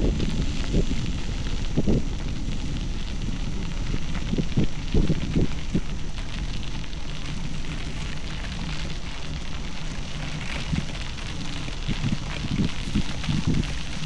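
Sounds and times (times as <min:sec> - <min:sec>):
bicycle tyres rolling on gravel: 0:00.0 - 0:14.0.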